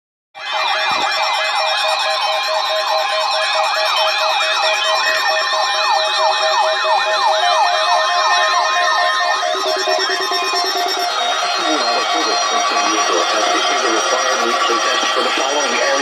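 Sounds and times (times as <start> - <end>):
electronic sirens yelping: 0.4 - 16.0.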